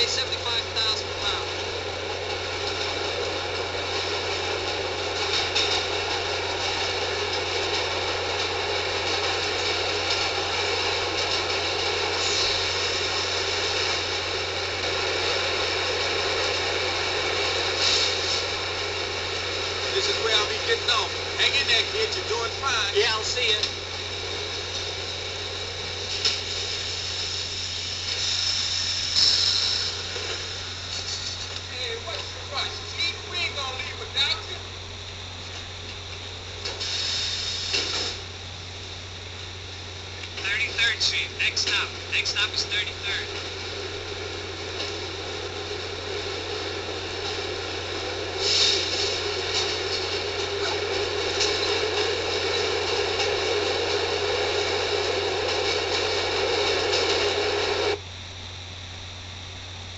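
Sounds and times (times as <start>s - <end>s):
high-pitched whine and hiss: 0.0s - 59.9s
subway train running: 0.0s - 59.9s.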